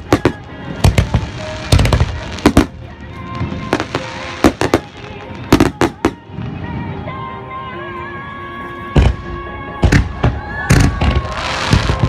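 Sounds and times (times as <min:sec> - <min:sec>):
fireworks bangs: 0:00.0 - 0:06.8, 0:09.0 - 0:12.0.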